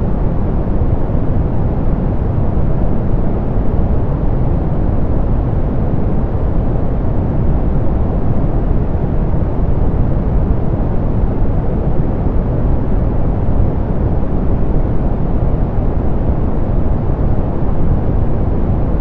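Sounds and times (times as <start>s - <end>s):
deep pink noise hiss: 0.0s - 19.0s.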